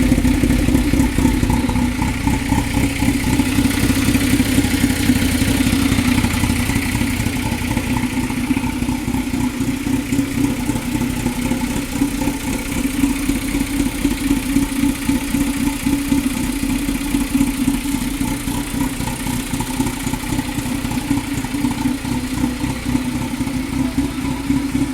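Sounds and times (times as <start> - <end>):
car engine idling roughly: 0.0 - 24.9.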